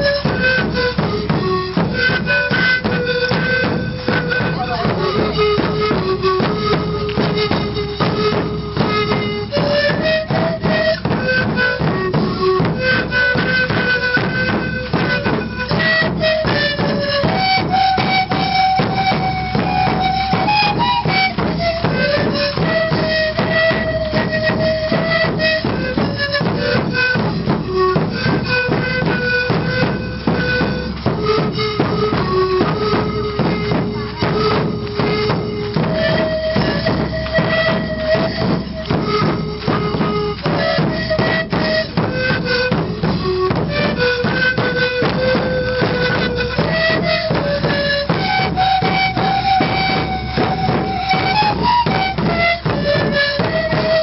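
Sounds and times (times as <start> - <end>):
large drums beating: 0.0 - 54.0
wooden flutes playing slow melody: 0.0 - 54.0.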